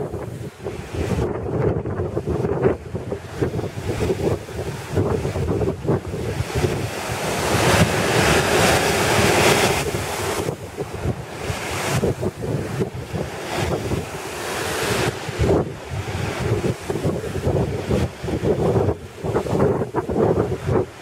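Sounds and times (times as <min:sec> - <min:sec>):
waves breaking on shore: 0:00.0 - 0:21.0
wind buffeting microphone: 0:00.0 - 0:21.0.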